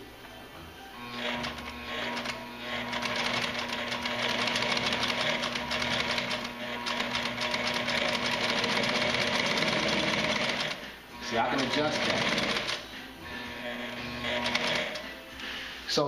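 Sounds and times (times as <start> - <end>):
sewing machine stitching: 1.1 - 15.1.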